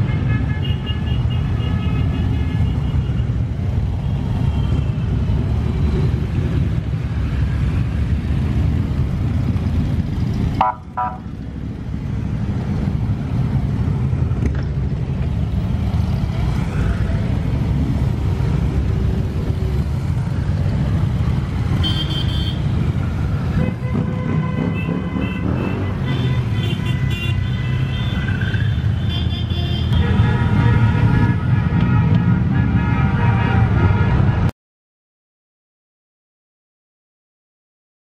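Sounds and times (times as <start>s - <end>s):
motorcycles riding past: 3.4s - 34.3s.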